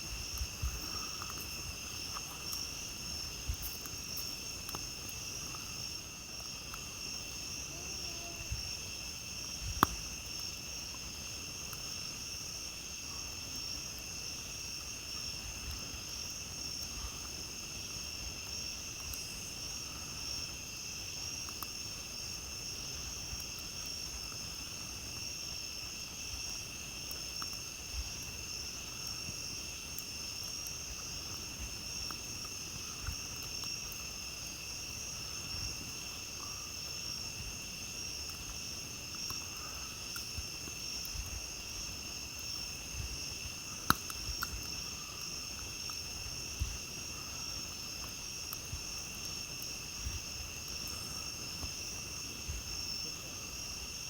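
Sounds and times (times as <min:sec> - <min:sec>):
campfire crackles: 0:00.0 - 0:54.0
night insects chorus: 0:00.0 - 0:54.0.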